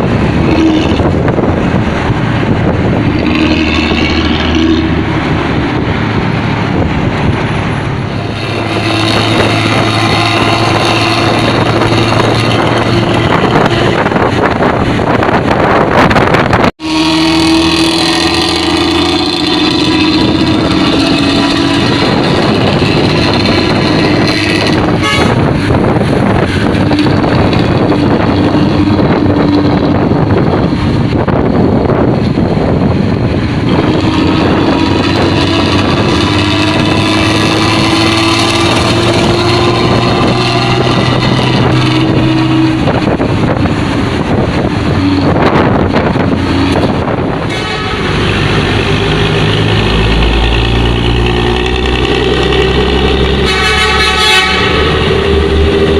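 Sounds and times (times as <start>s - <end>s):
bus diesel engine growling: 0.0s - 55.9s.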